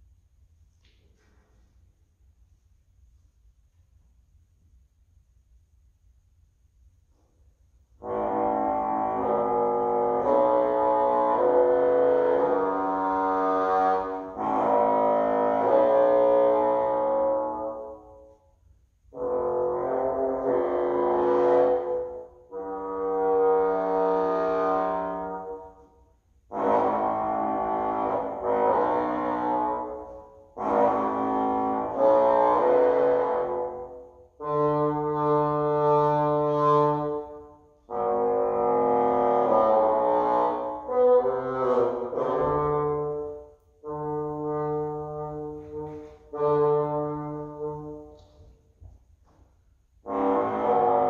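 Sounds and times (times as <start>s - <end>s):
solo wind instrument: 7.1s - 51.0s.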